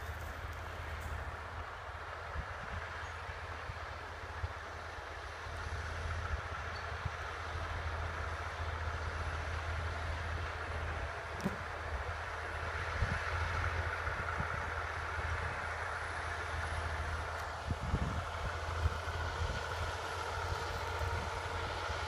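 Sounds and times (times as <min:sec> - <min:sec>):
heavy diesel engines under load: 0:00.0 - 0:22.0.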